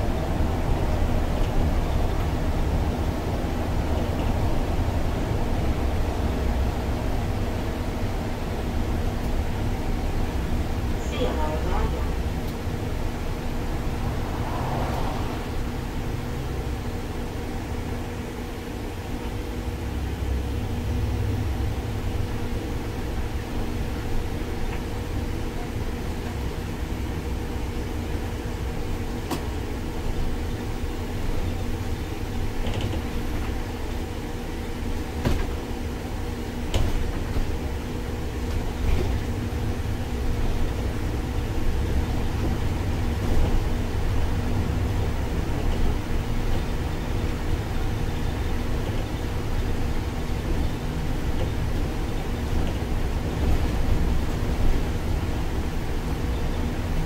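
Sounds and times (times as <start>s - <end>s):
bus engine and road rumble: 0.0s - 57.0s
steady hum: 0.0s - 57.0s.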